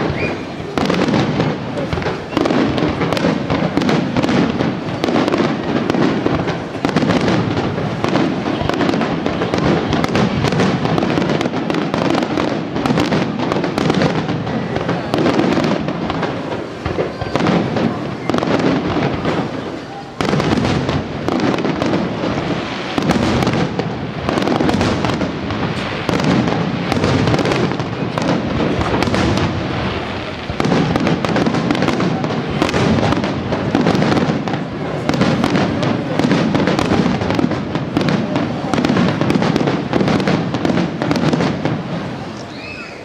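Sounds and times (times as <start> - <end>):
fireworks bursting: 0.0 - 43.0.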